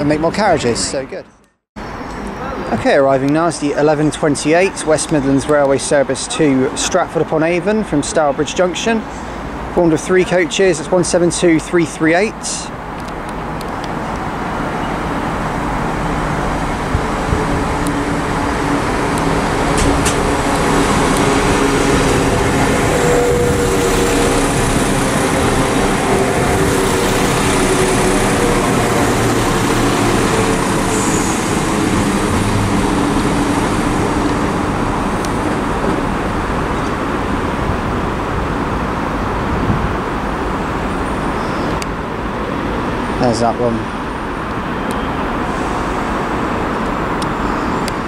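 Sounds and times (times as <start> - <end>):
diesel train arriving: 0.0 - 48.0
steady train tones: 1.9 - 43.2.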